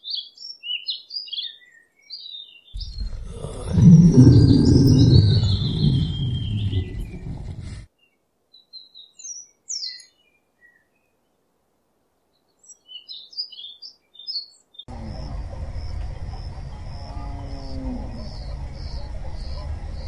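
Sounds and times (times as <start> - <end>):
small birds chirping: 0.0 - 11.4, 12.2 - 15.2, 15.8 - 20.0.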